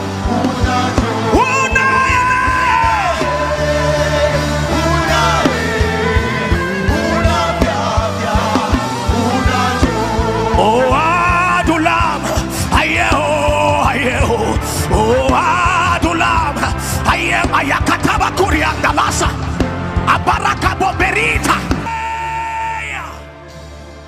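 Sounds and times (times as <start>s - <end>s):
gospel band playing: 0.0s - 24.0s.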